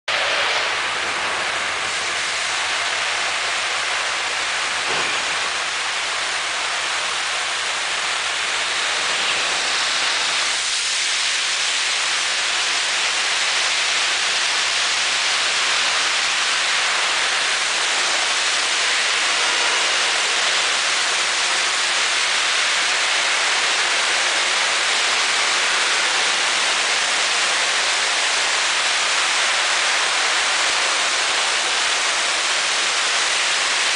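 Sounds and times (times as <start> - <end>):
water jets hissing: 0.9 - 33.9.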